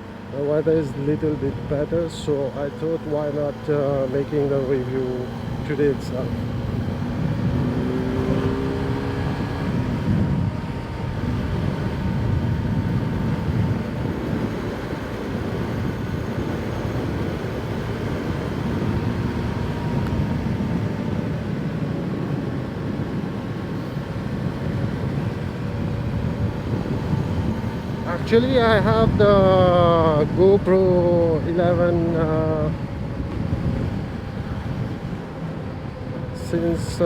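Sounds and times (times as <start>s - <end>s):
motorcycle engine rumble: 0.0s - 37.0s
road noise: 0.0s - 37.0s
wind noise: 0.0s - 37.0s.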